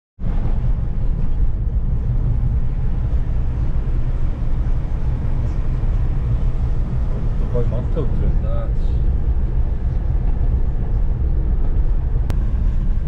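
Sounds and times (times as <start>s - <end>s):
road and tyre noise in car cabin: 0.2s - 13.0s.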